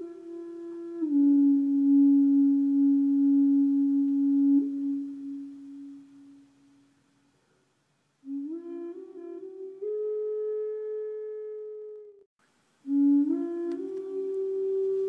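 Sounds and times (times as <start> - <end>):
flute notes: 0.0 - 7.6, 8.2 - 15.0.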